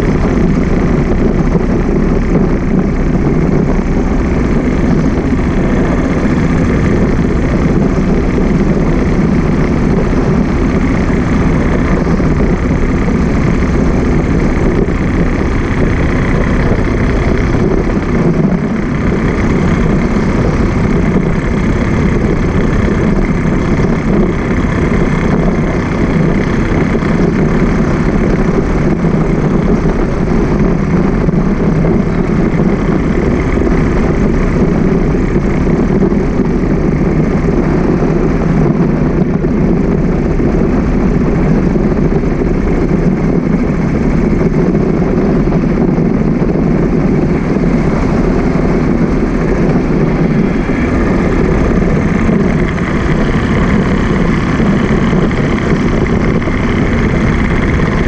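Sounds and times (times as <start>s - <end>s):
traffic and engine noise: 0.0s - 58.0s
vehicles passing close by: 0.0s - 58.0s.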